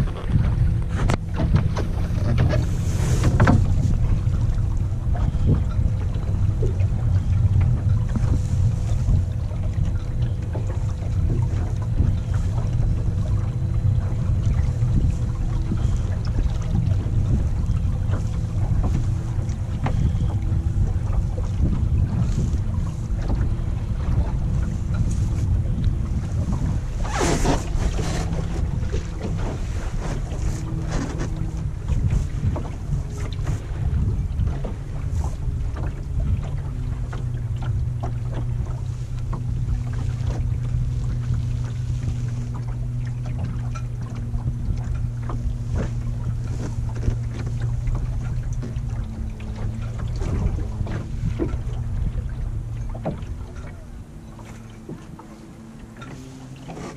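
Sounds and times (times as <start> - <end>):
electric outboard motor hum: 0.0 - 56.9
water slapping against hull: 0.0 - 56.9
wind buffeting microphone: 0.0 - 56.9.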